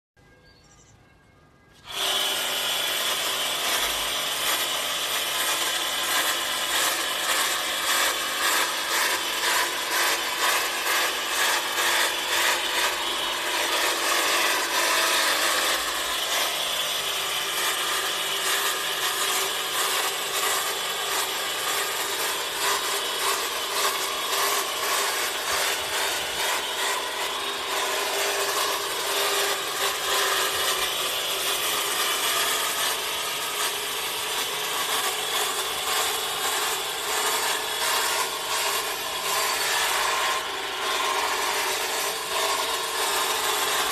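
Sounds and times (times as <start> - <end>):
hedge trimmer cutting foliage: 1.7 - 43.9.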